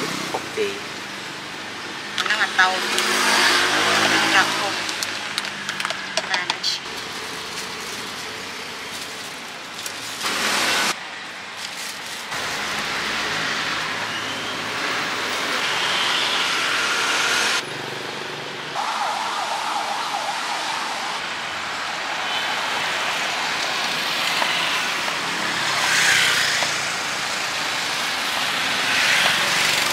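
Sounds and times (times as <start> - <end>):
street traffic noise: 0.0 - 29.9.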